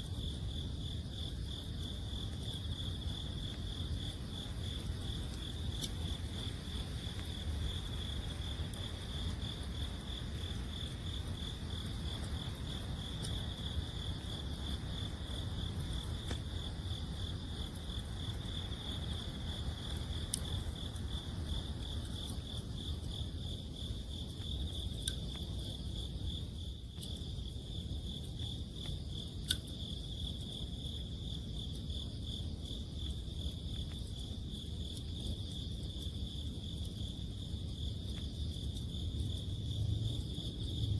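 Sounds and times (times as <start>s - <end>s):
campfire crackles: 0.0s - 40.9s
crickets trilling: 0.0s - 40.9s.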